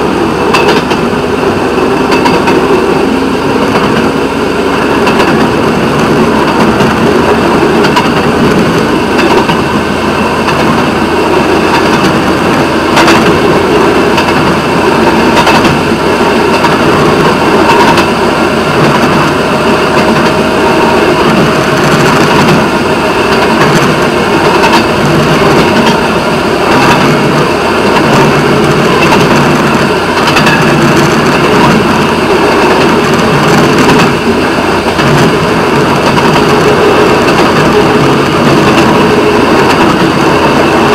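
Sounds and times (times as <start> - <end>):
steel wheels rolling on rails: 0.0 - 40.9.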